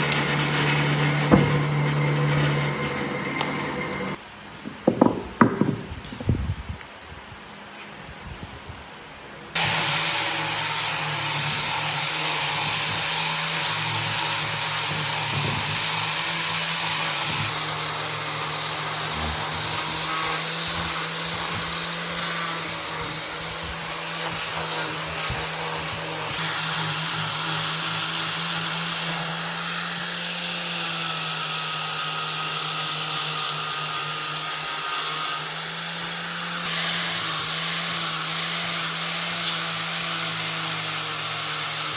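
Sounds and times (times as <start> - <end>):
electric power tool cutting wood: 0.0 - 4.2, 9.6 - 41.9.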